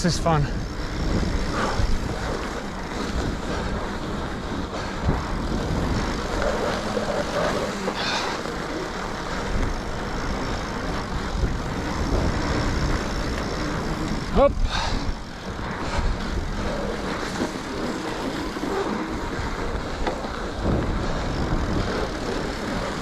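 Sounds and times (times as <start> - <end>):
tyres on snow: 0.0 - 23.0
wind on microphone: 0.0 - 23.0.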